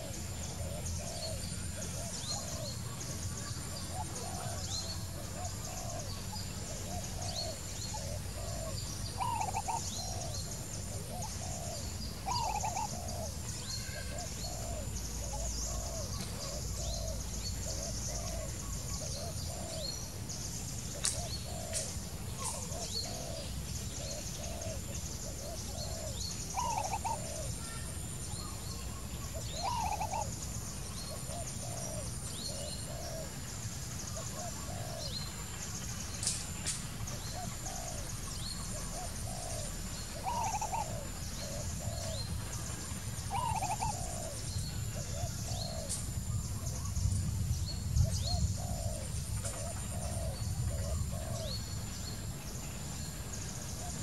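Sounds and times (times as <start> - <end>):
birds calling low notes: 0.0 - 54.0.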